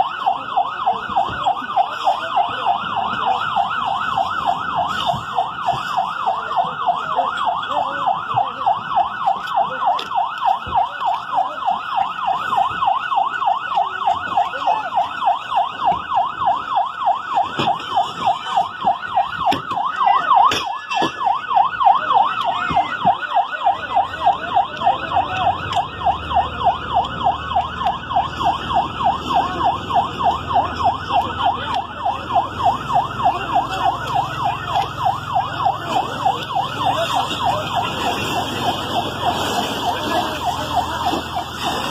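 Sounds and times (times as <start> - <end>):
ambulance siren yelping: 0.0 - 41.9.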